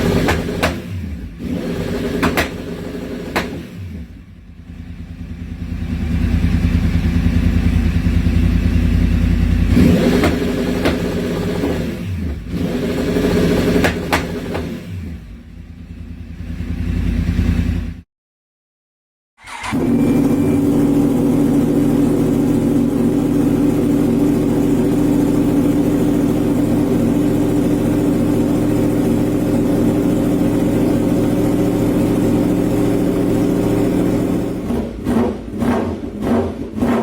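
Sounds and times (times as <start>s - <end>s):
motorcycle engine revving: 0.0s - 18.0s, 19.4s - 37.0s.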